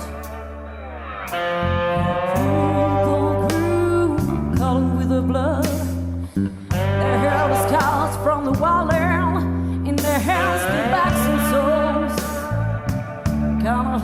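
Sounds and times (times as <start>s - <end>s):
bass and guitar: 0.0s - 14.0s
woman singing with vibrato: 1.7s - 14.0s.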